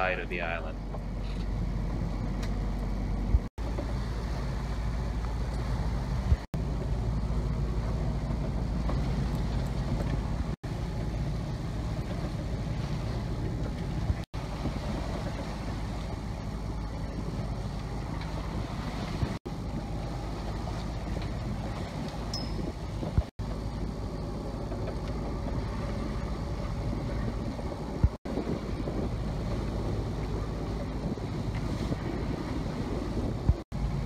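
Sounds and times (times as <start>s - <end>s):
water rushing along hull: 0.0s - 34.0s
wind buffeting microphone: 0.0s - 34.0s.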